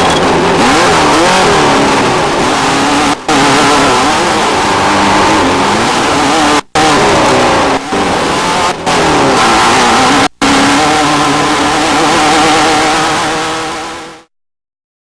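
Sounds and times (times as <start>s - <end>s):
race vehicle engines revving: 0.0s - 14.3s.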